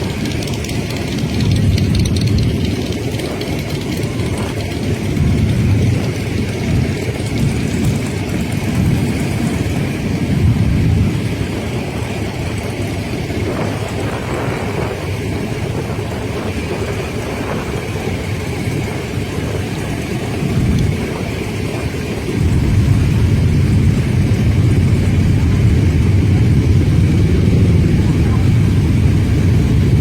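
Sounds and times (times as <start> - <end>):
motorcycle engines rumbling: 0.0 - 30.0.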